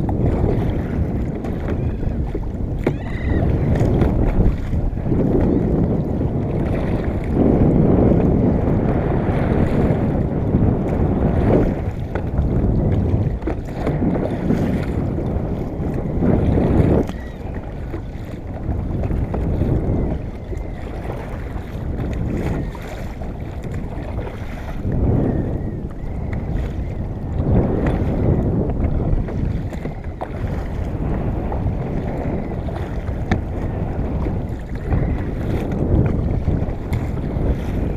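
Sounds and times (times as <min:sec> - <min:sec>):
water washing against kayak: 0:00.0 - 0:37.9
wind buffeting microphone: 0:00.0 - 0:37.9.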